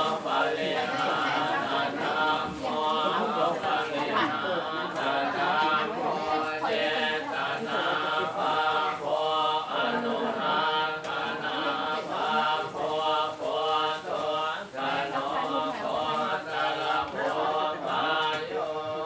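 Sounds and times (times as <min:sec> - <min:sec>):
group chanting in unison: 0:00.0 - 0:19.0.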